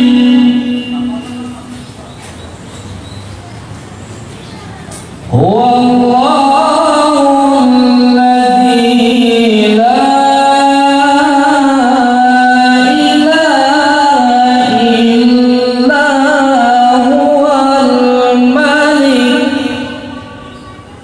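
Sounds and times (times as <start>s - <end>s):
man chanting through sound system: 0.0s - 2.2s, 5.3s - 20.8s.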